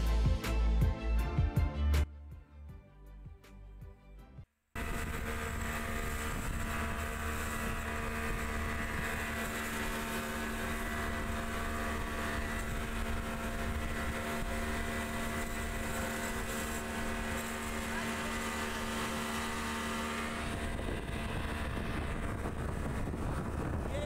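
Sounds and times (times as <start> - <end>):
outboard motor running: 4.8 - 24.0.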